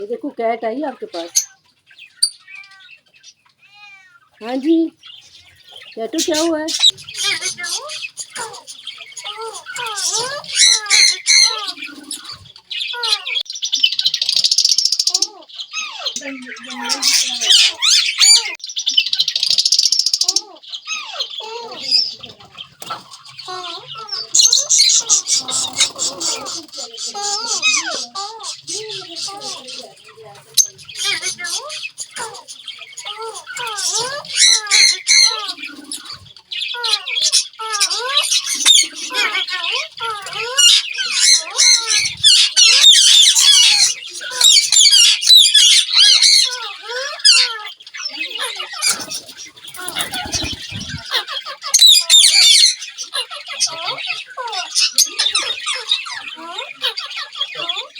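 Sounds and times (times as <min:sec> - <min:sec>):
parakeet chattering: 0:00.0 - 0:57.9.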